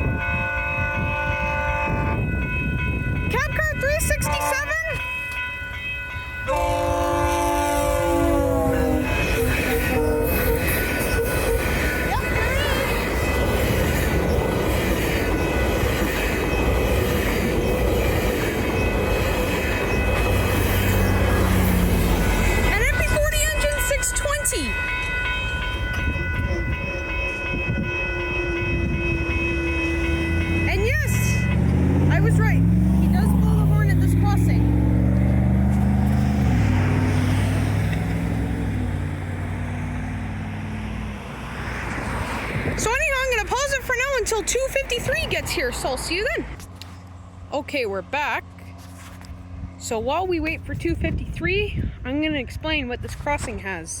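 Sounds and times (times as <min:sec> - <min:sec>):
diesel locomotive passing: 0:00.0 - 0:54.0
train wheels rumbling on rails: 0:00.0 - 0:54.0.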